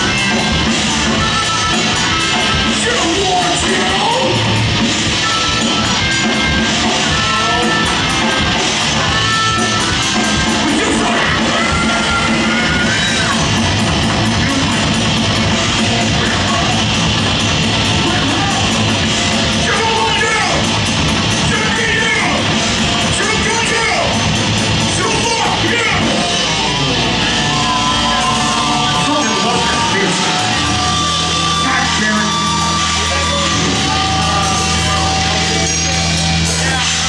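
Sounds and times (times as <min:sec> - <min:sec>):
distorted electric guitar: 0:00.0 - 0:37.0
drum kit: 0:00.0 - 0:37.0.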